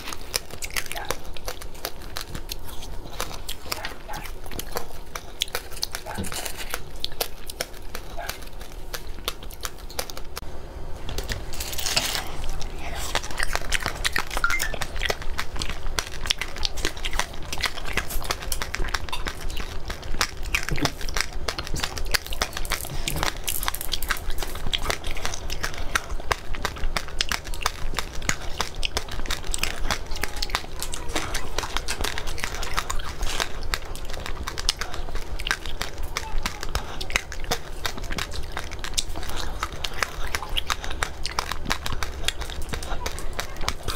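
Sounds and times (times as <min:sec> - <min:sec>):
crunchy biting and chewing: 0:00.0 - 0:10.4, 0:11.1 - 0:43.9.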